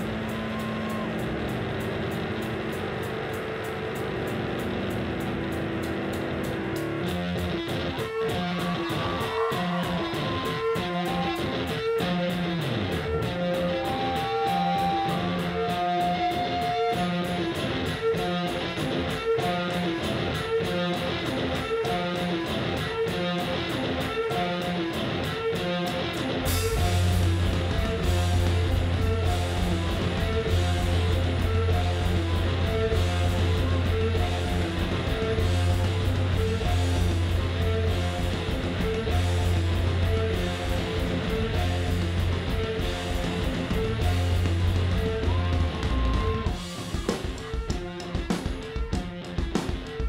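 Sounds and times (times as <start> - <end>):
clean electric guitar riff: 0.0 - 47.6
full rock band playing: 0.0 - 50.0.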